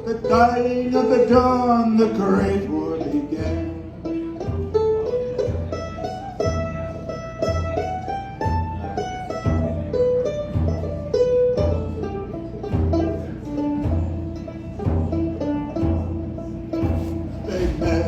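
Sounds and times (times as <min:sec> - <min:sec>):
low bass notes: 0:00.0 - 0:18.0
plucked strings melody: 0:00.0 - 0:18.0.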